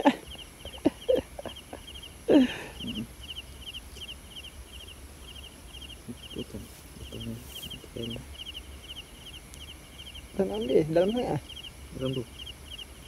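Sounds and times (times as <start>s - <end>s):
high chirps in rapid groups: 0.0s - 13.0s.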